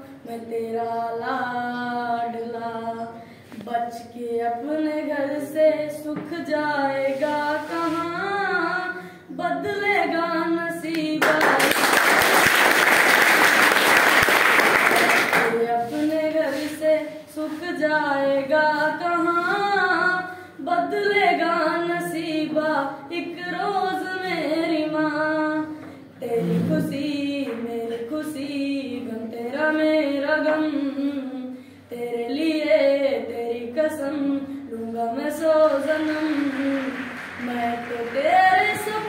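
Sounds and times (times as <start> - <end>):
boy singing unaccompanied: 0.0 - 11.6, 15.4 - 39.0.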